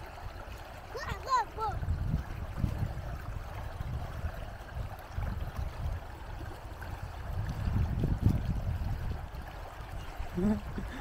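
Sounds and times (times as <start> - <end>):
river running over stones: 0.0 - 11.0
wind rumble on microphone: 0.0 - 11.0.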